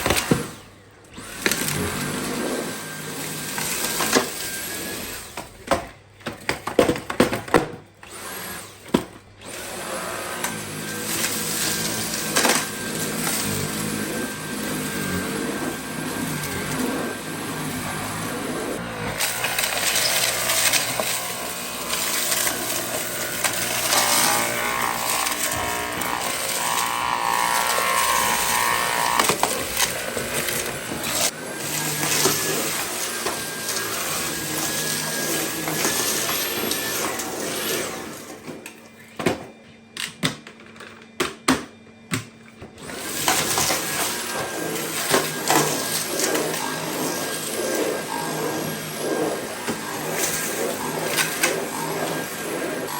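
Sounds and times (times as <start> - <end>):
cordless vacuum running: 0.0 - 5.7, 8.0 - 38.6, 42.6 - 52.9.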